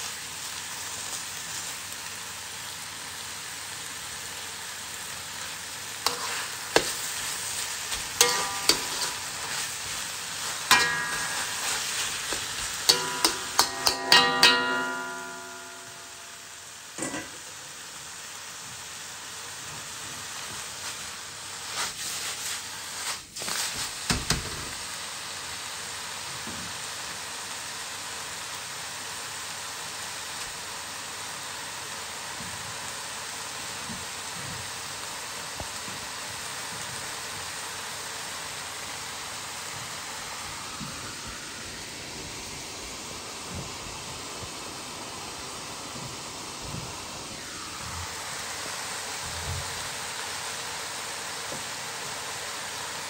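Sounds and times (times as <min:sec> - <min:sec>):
meat sizzling in a wok: 0:00.0 - 0:53.0.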